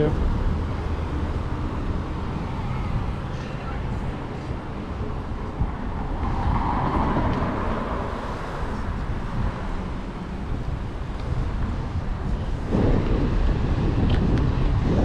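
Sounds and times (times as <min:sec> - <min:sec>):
cars driving past: 0:00.0 - 0:14.0
low traffic rumble: 0:00.0 - 0:15.0.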